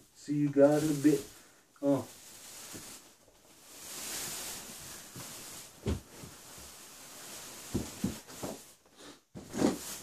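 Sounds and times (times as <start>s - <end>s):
plastic wrapping crinkling: 0.2s - 10.0s.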